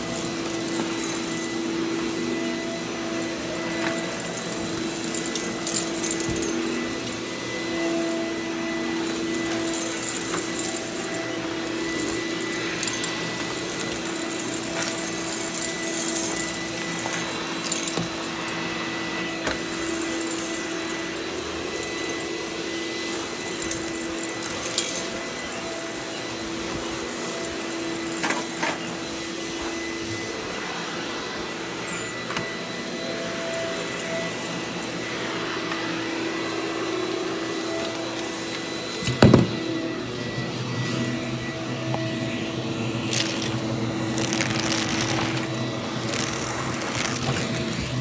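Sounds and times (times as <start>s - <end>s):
vacuum cleaner running on carpet: 0.0s - 48.0s.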